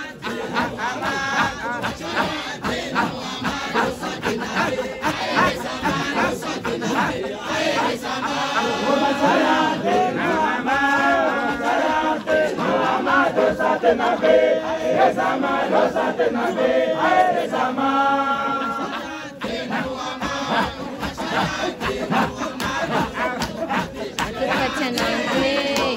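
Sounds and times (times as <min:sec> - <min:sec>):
crowd noise: 0:00.0 - 0:25.9
men chanting: 0:00.0 - 0:25.9.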